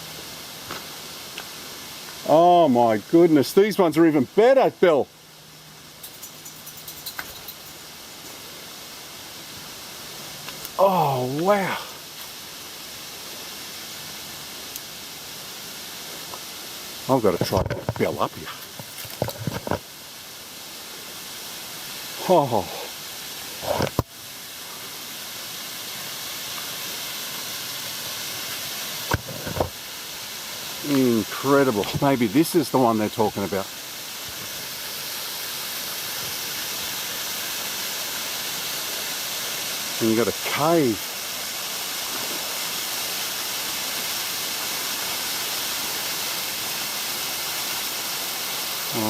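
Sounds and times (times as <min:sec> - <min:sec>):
water running over rocks: 0:00.0 - 0:49.0.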